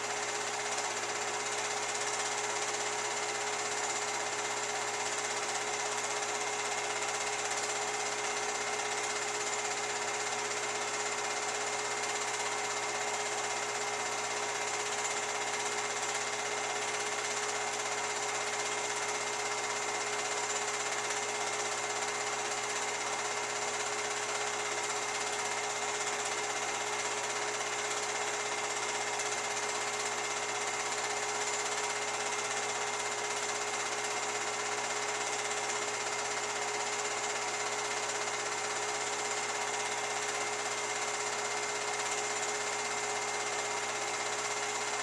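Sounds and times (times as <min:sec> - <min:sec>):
film projector whirring: 0:00.0 - 0:45.0.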